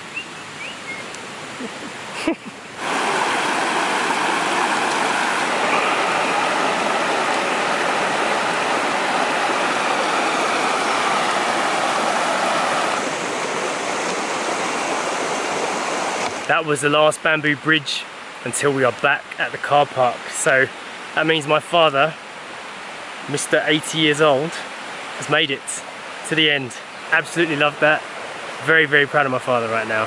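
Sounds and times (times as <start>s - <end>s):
quiet forest background: 0.0s - 30.0s
stream water rushing: 0.0s - 30.0s.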